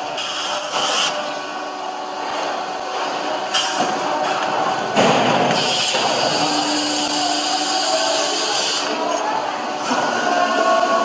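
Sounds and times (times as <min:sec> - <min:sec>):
steady machinery noise: 0:00.0 - 0:11.0.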